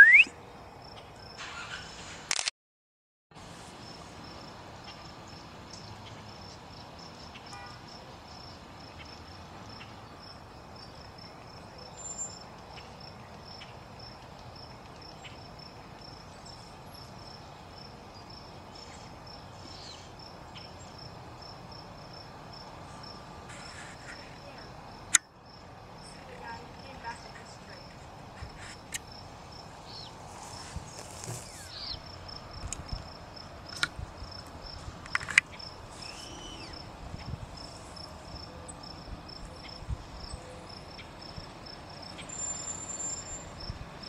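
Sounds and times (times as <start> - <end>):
insect chirping: 0.0 - 1.4, 3.8 - 44.0
faint outdoor background noise: 0.0 - 2.5, 3.3 - 44.0.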